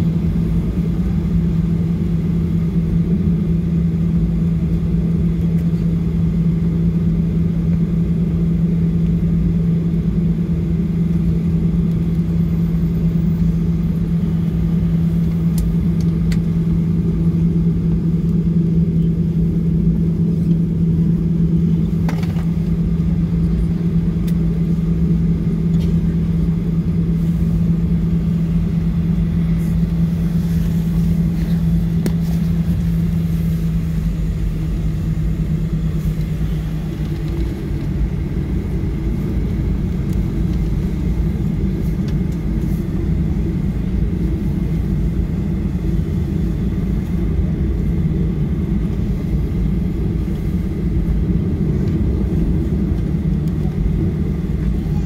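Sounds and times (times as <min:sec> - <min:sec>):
jet engines idling drone: 0:00.0 - 0:55.0.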